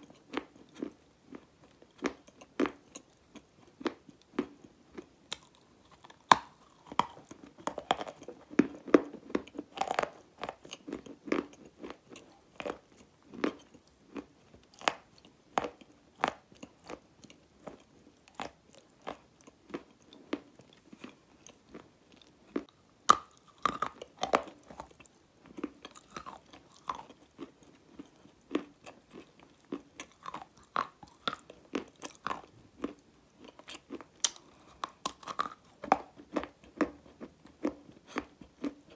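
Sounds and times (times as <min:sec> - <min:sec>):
soft grinding chewing: 0:00.0 - 0:38.9.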